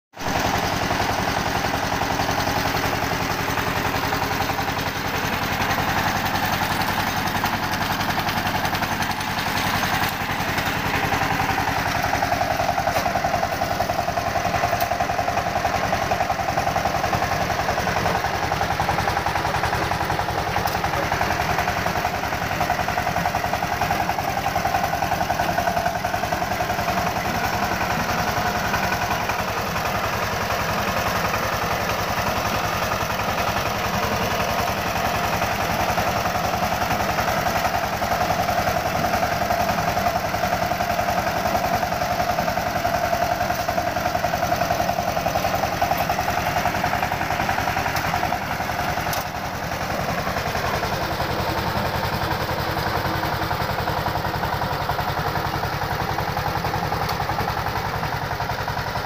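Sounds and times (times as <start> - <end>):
diesel tiller engine running: 0.2 - 59.0
tines working dry soil: 0.2 - 59.0.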